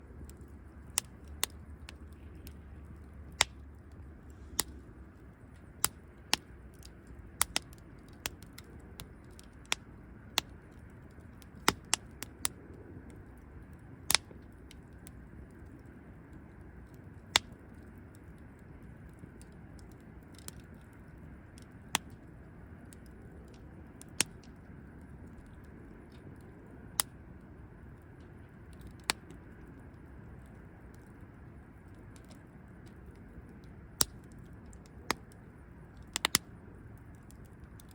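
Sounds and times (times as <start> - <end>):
low hiss of burning: 0.0 - 37.9
wood fire crackling pops: 0.1 - 27.3, 28.0 - 37.9.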